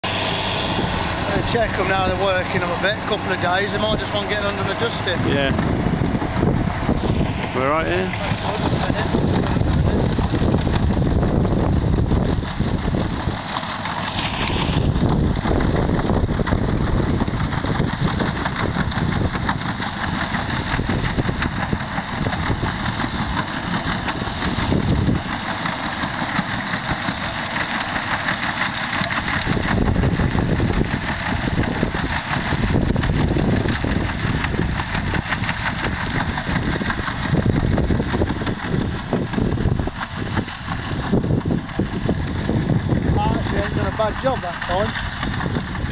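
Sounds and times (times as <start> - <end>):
muck spreader machine noise: 0.0 - 45.9
tractor engine under load: 0.0 - 45.9.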